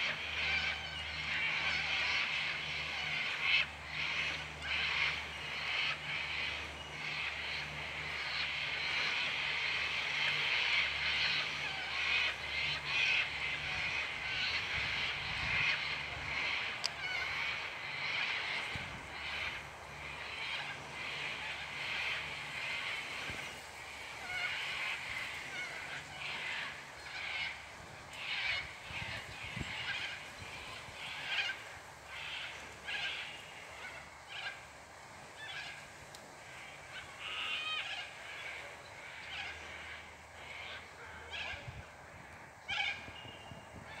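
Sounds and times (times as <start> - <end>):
birds calling: 0.0 - 44.0.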